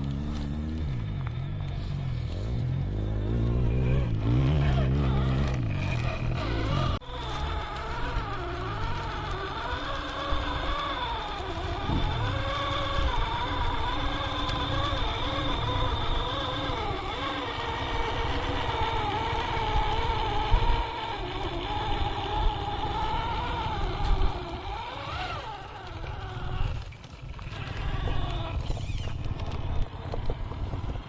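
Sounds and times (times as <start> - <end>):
electric motor whining: 0.0 - 31.0.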